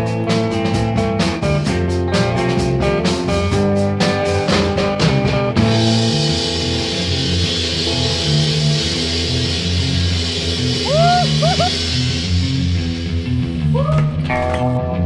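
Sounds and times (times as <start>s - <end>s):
drums: 0.0s - 15.0s
guitar: 0.0s - 15.0s
rock music: 0.0s - 15.0s.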